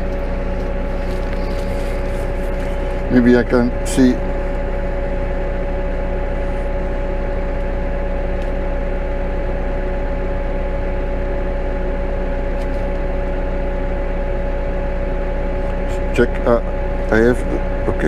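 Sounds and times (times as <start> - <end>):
constant whine: 0.0 - 18.0
tractor engine droning: 0.0 - 18.0.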